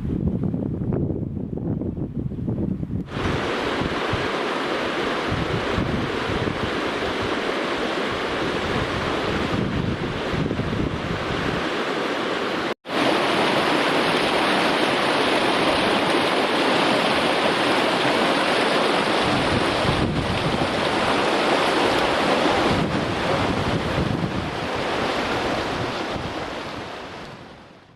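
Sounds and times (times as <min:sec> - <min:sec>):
river water rushing: 0:03.1 - 0:27.8.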